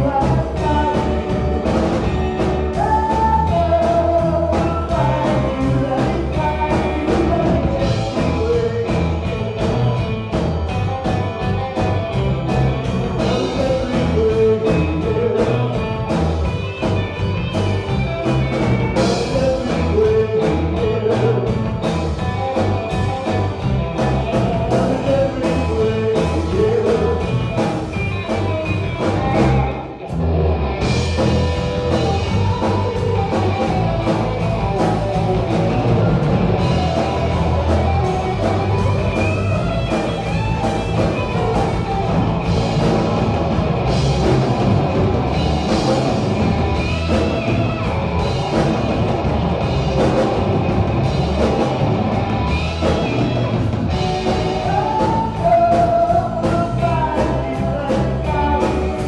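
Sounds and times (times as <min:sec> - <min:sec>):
bass guitar: 0:00.0 - 0:59.0
drum kit: 0:00.0 - 0:59.0
electric guitar: 0:00.0 - 0:59.0
keyboard: 0:00.0 - 0:59.0.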